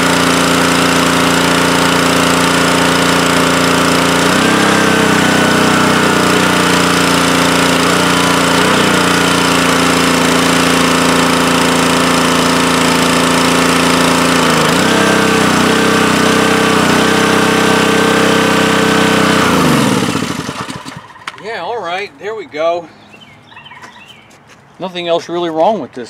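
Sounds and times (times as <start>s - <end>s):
small engine running: 0.0s - 22.1s.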